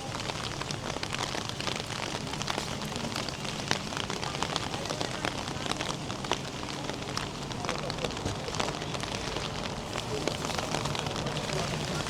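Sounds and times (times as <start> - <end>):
rain hitting hard surfaces: 0.0 - 12.0.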